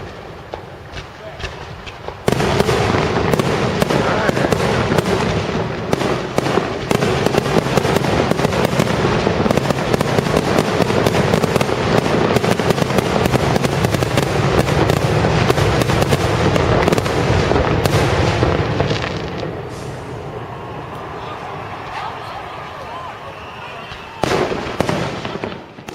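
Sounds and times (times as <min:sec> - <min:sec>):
fireworks bangs and crackles: 0:00.0 - 0:25.9.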